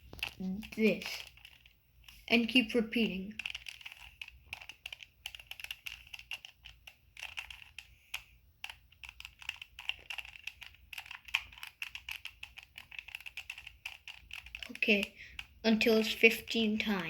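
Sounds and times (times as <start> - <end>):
plastic puzzle cube clicking: 0.0 - 16.5.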